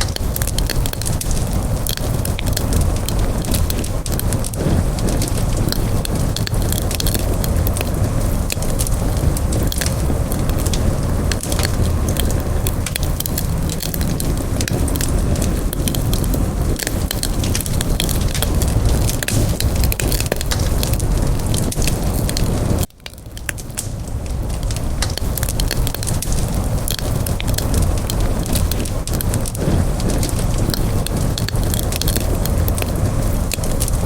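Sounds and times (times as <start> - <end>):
campfire crackling: 0.0 - 34.0
flames rumbling: 0.0 - 34.0.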